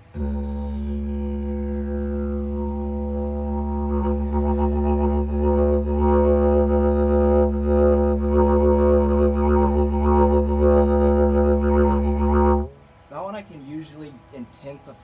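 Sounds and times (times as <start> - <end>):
didgeridoo drone: 0.0 - 12.7.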